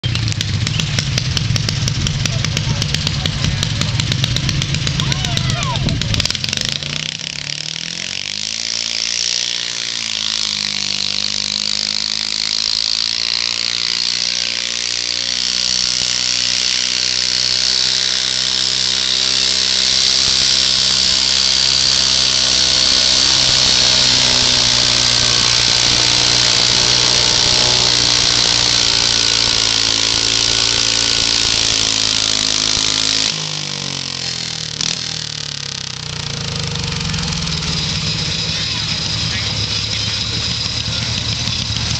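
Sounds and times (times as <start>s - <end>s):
garden tractor engine revving: 0.0s - 41.9s.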